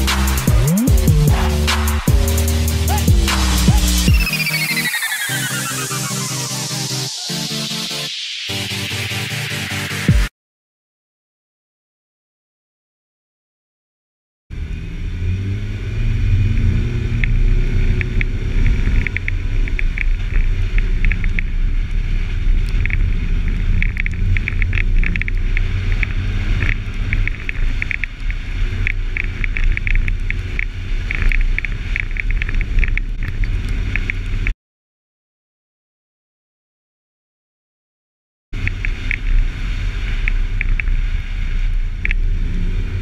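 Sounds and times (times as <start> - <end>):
vehicle rumble: 0.0 - 10.0, 14.5 - 34.5, 38.6 - 43.0.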